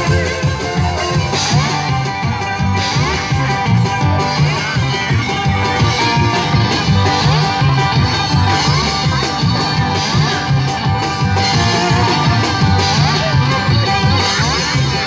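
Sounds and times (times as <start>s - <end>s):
drum kit beat: 0.0s - 15.0s
guitar lead with sliding notes: 0.0s - 15.0s
plucked upright bass: 0.0s - 15.0s.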